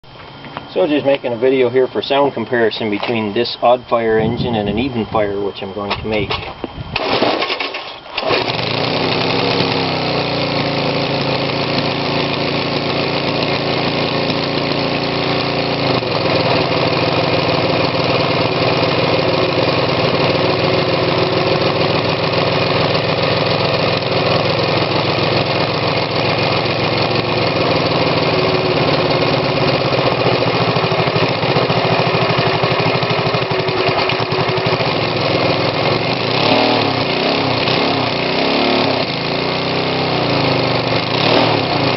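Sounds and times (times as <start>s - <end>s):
twin-cylinder engine running: 0.5s - 41.9s.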